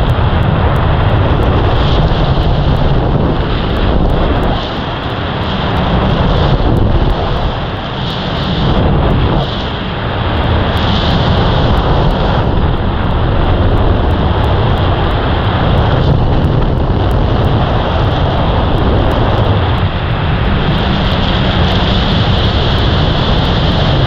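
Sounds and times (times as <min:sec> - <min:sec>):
wind battering microphone: 0:00.0 - 0:24.0.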